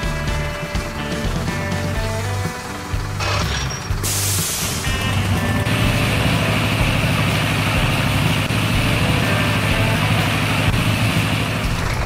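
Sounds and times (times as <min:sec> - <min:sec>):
drying fans rushing air: 0:00.0 - 0:12.0
heavy truck engine idling: 0:00.0 - 0:12.0.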